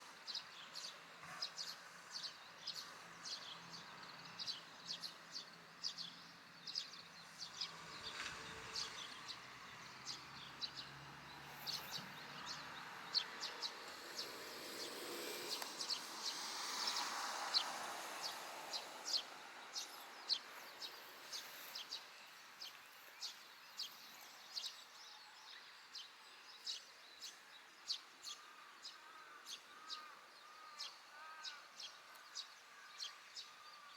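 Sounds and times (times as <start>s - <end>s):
faint outdoor background noise: 0.0s - 33.9s
sparrow chirping: 0.3s - 28.4s.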